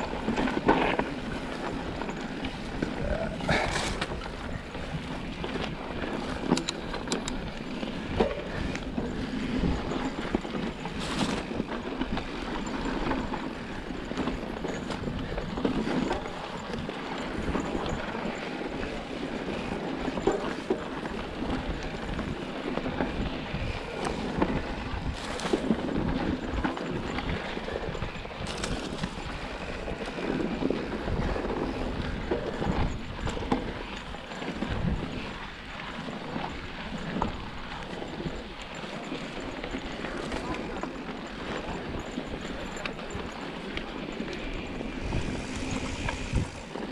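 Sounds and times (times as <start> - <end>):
tyres on dirt and gravel: 0.0 - 35.2, 35.9 - 46.9.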